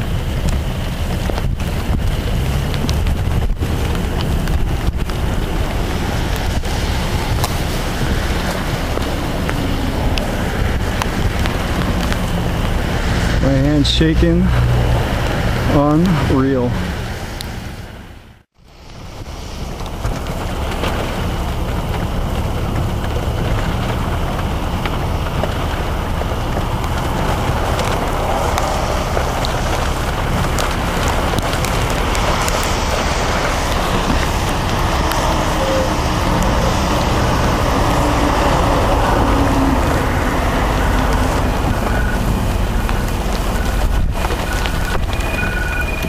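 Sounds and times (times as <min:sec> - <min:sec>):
rain: 0:00.0 - 0:46.0
storm wind on microphone: 0:00.0 - 0:46.0.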